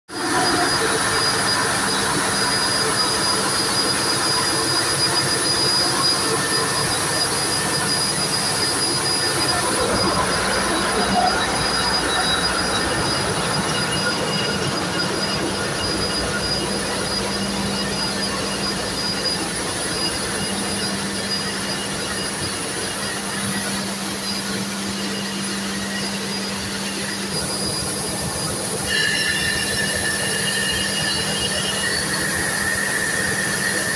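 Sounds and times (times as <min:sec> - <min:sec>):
engine room machinery din: 0:00.1 - 0:33.9
high machinery whines: 0:00.1 - 0:33.9.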